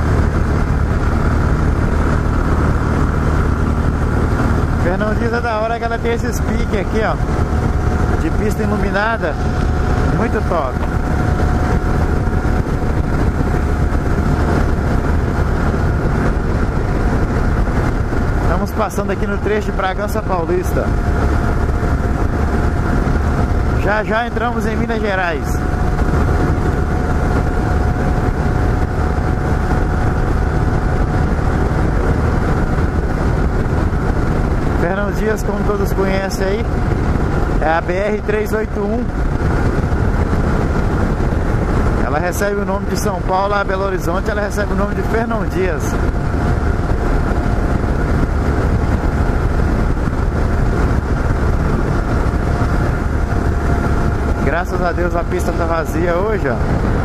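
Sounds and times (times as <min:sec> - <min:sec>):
motorcycle engine drone: 0:00.0 - 0:57.0
wind and road noise: 0:00.0 - 0:57.0.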